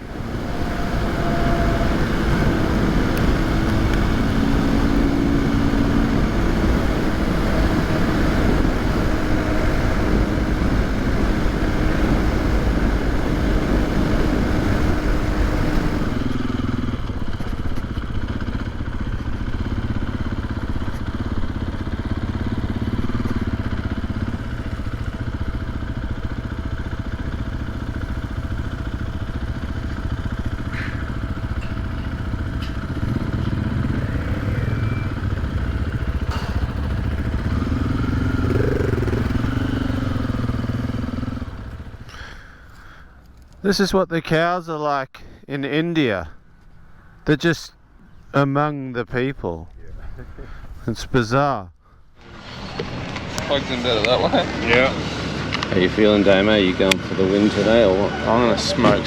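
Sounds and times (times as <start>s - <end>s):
dirt bike engines running: 0.0s - 45.0s, 45.6s - 59.0s.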